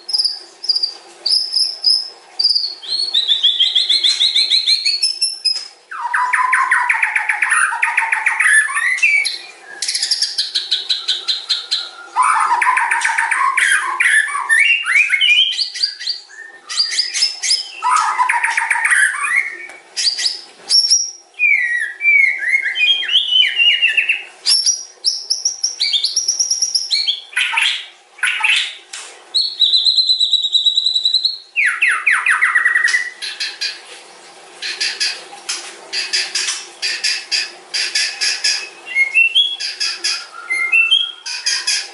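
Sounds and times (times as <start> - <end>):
songbird singing: 0.0 - 28.8, 35.9 - 41.9.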